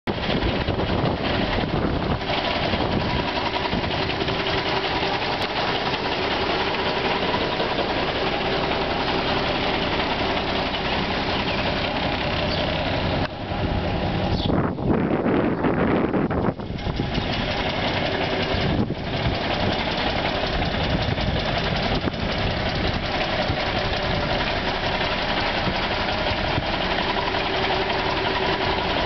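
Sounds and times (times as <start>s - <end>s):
heavy truck engine idling: 0.1s - 29.0s.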